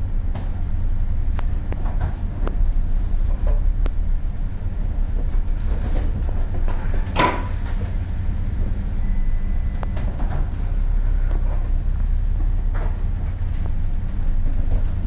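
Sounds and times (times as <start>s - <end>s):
deep ship rumble: 0.0s - 15.0s
storm wind: 0.0s - 15.0s.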